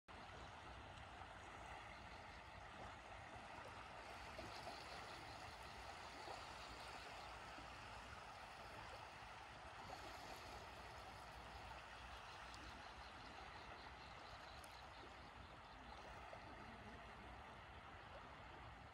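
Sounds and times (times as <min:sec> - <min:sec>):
small waves lapping on sand: 0:00.1 - 0:18.9.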